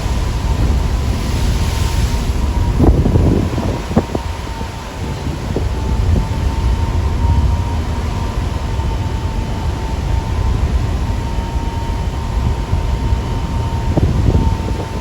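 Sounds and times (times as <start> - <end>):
thin steady whine: 0.0 - 15.0
wind buffeting microphone: 0.0 - 15.0.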